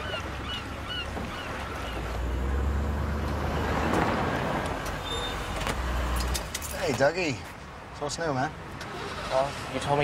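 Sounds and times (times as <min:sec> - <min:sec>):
waterfront ambience: 0:00.0 - 0:10.0.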